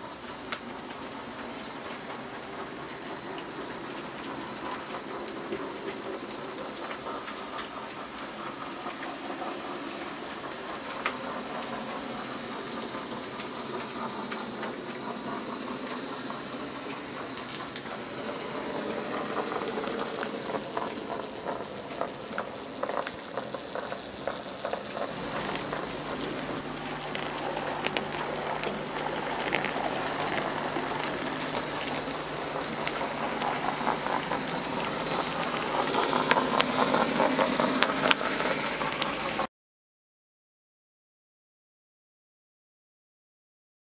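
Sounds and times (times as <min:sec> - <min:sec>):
model train wheels clicking: 0:00.0 - 0:39.5
motor hum: 0:00.0 - 0:39.5.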